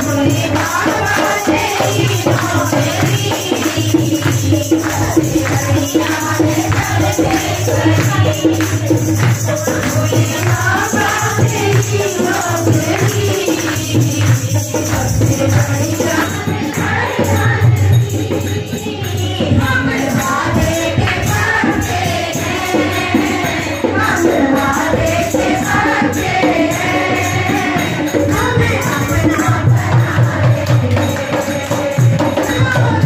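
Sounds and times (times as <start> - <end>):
jingling percussion beat: 0.0 - 33.0.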